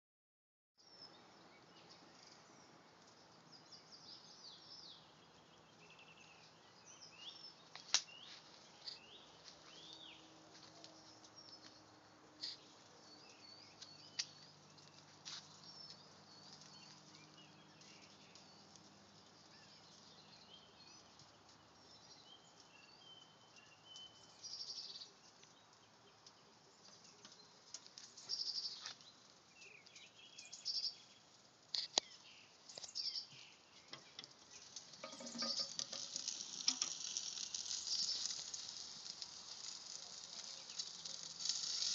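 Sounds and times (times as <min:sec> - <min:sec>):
small birds singing: 0:00.8 - 0:41.9.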